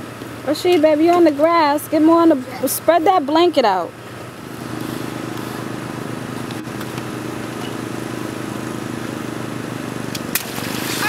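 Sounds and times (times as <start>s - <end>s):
small engine droning: 0.0s - 11.0s.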